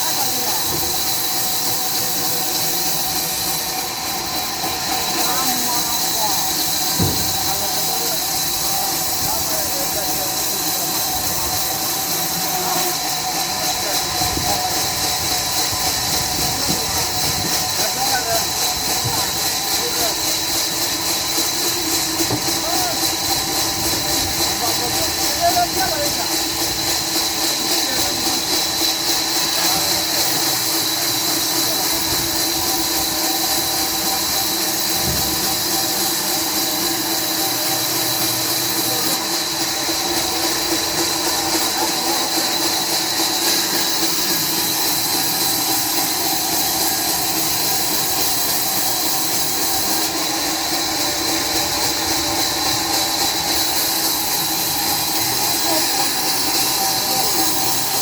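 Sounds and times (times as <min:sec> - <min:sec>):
sawmill machinery whining: 0:00.0 - 0:58.0.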